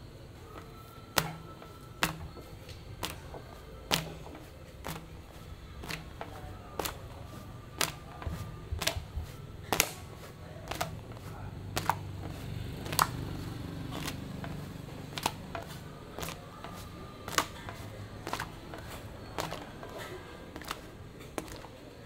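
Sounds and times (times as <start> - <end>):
steady low hum: 0.0 - 22.0
sharp taps of dough: 0.6 - 13.3, 13.9 - 21.7.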